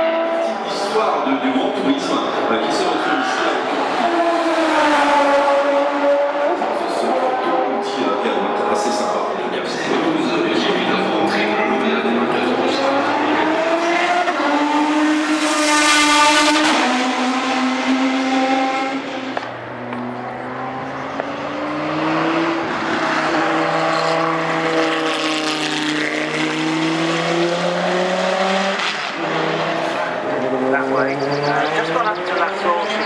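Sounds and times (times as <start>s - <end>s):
race car accelerating: 0.0s - 33.0s
race car passing at speed: 0.0s - 33.0s.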